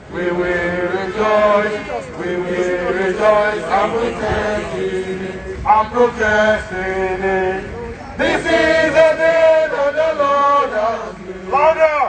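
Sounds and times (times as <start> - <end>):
voices singing protest chant: 0.0 - 12.0.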